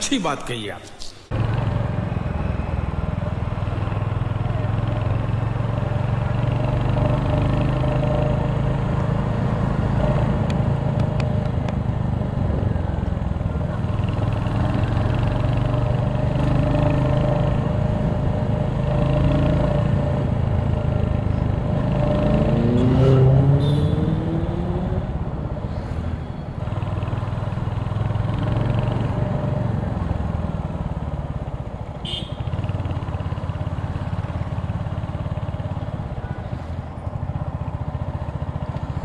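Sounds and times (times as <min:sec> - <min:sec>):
motorcycle engine running: 0:01.3 - 0:24.5, 0:26.6 - 0:39.0.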